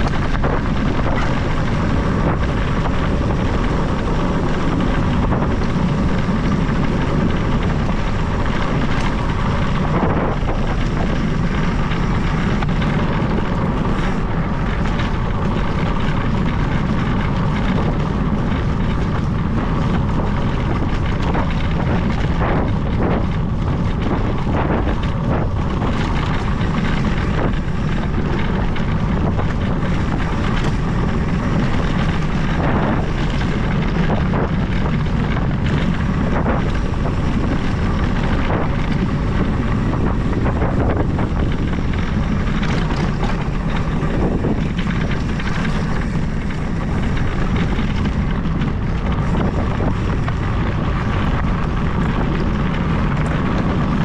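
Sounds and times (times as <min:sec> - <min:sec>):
bike tyres rolling on gravel: 0:00.0 - 0:54.0
wind buffeting microphone: 0:00.0 - 0:54.0.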